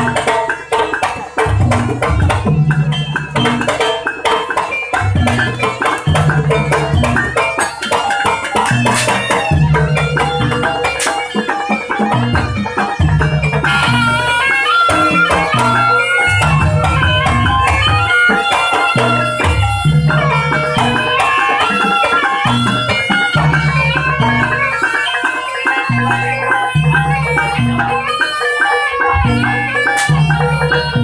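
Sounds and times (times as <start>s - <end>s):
reedy wind melody: 5.0s - 31.0s.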